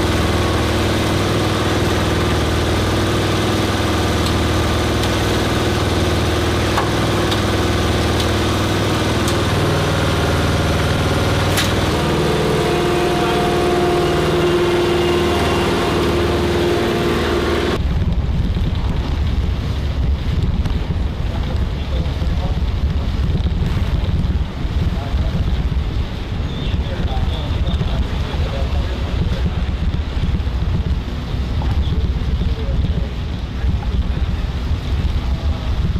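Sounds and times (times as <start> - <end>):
engine running: 0.0 - 35.9
wind rumble on microphone: 0.0 - 35.9.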